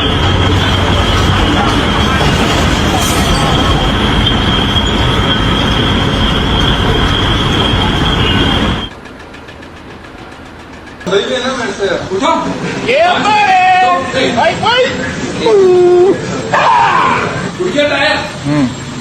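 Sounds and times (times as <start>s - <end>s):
loud mechanical rumble: 0.0s - 16.6s
high steady squeal: 0.0s - 18.2s.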